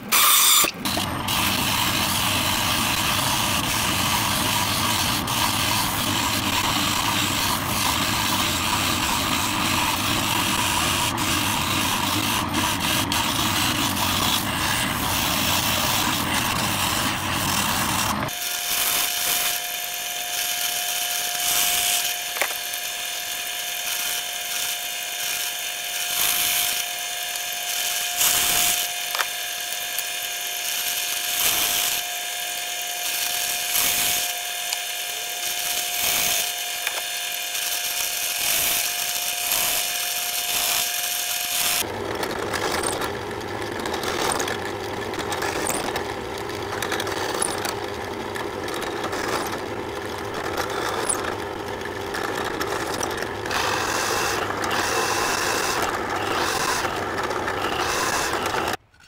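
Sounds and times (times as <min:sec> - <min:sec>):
drill bit rasping through wood: 0:00.0 - 0:58.8
drill press whining: 0:00.0 - 0:58.8.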